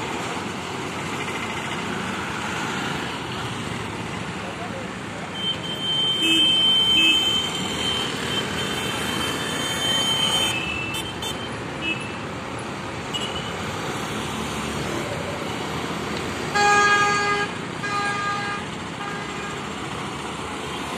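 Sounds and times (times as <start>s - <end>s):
street traffic: 0.0s - 20.9s.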